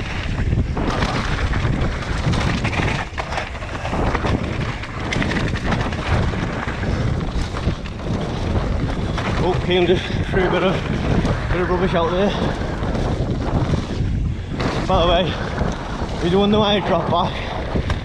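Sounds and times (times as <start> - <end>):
bike clattering over rough ground: 0.0 - 18.0
wind buffeting microphone: 0.0 - 18.0.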